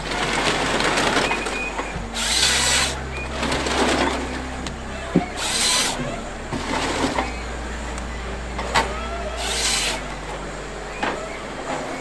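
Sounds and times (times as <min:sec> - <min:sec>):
harsh grinding of wood shredding: 0:00.0 - 0:12.0
wood crusher machine hum: 0:00.0 - 0:12.0.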